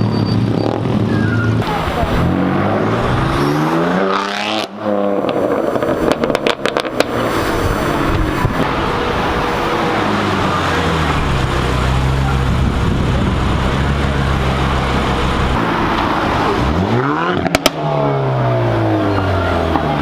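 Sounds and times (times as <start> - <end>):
car engine revving: 0.0 - 20.0
exhaust cracks: 1.6 - 18.0.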